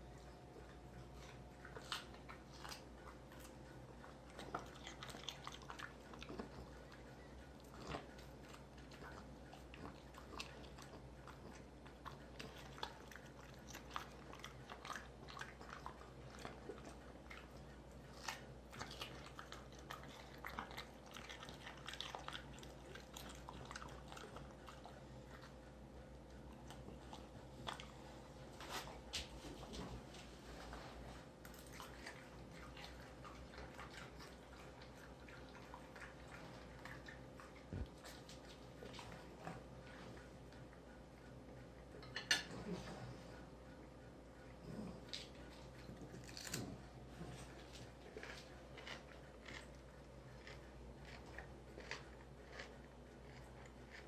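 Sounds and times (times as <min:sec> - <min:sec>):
dog crunching cucumber: 0:00.0 - 0:42.4, 0:44.6 - 0:54.0.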